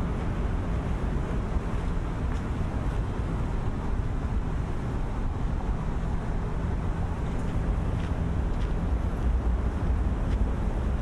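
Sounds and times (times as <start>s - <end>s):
city traffic rumble: 0.0s - 11.0s
wind buffeting microphone: 0.0s - 11.0s.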